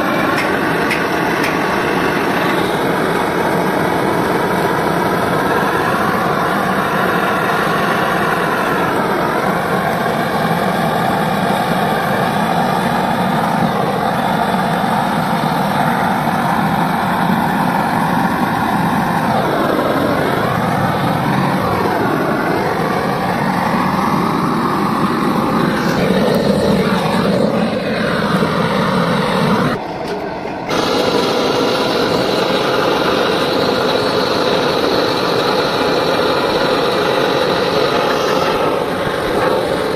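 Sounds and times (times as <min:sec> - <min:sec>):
gas torch hissing: 0:00.0 - 0:39.9.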